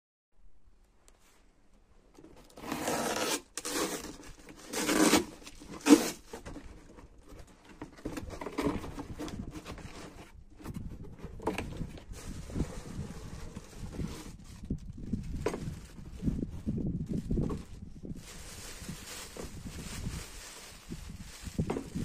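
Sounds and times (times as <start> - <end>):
rustling and rubbing: 2.3 - 22.0.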